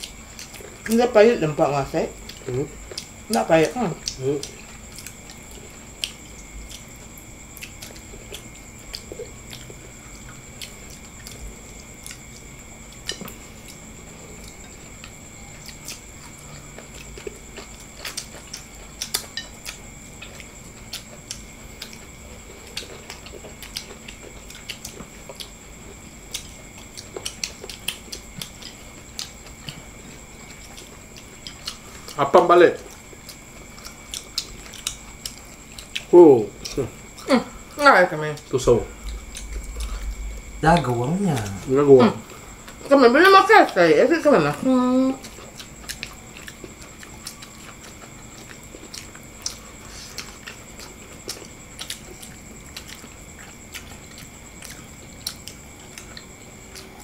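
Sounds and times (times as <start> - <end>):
chewing: 0.0 - 43.0, 43.6 - 57.0.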